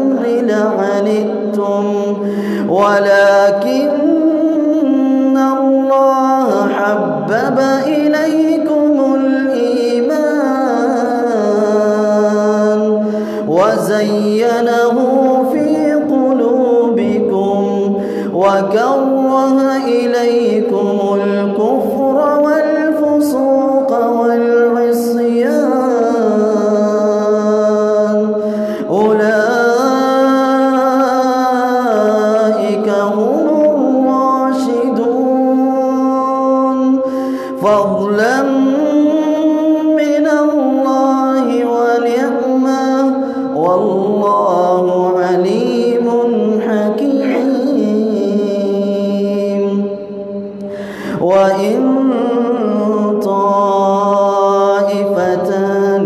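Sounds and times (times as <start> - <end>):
man chanting melodically: 0.0 - 56.0.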